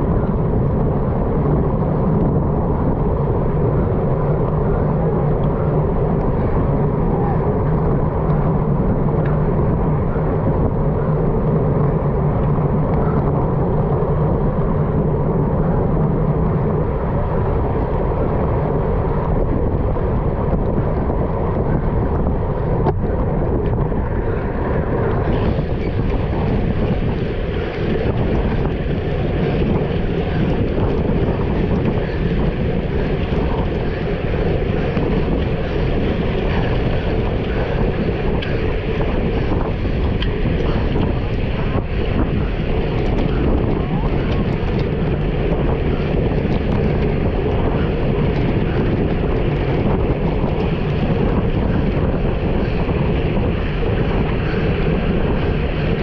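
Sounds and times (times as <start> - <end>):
low hum: 0.0 - 56.0
wind buffeting microphone: 0.0 - 56.0.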